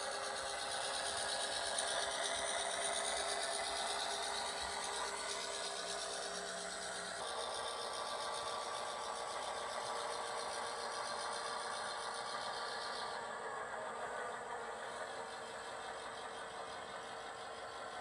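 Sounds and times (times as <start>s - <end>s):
model diesel locomotive drone: 0.0s - 18.0s.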